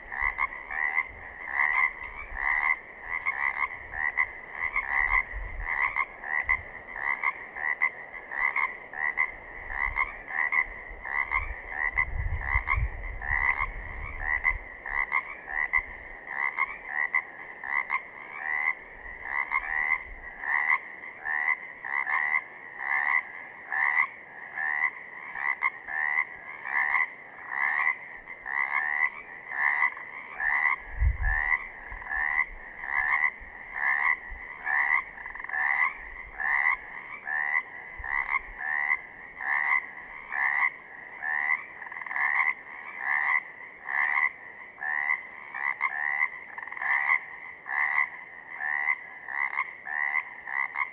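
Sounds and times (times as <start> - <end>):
frogs calling: 0.0 - 50.9.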